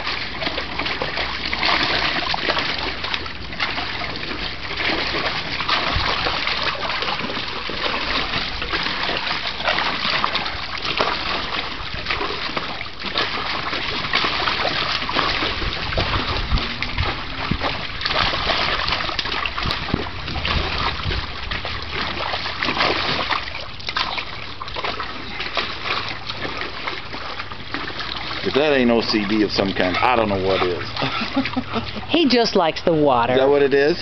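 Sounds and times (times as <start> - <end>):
dog splashing in water: 0.0 - 33.9.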